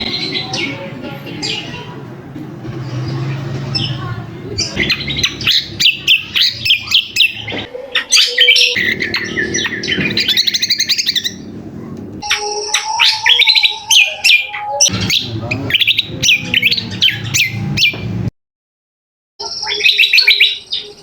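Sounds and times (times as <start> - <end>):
bird chirping and trilling: 0.0 - 2.0, 2.6 - 18.3, 19.4 - 21.0.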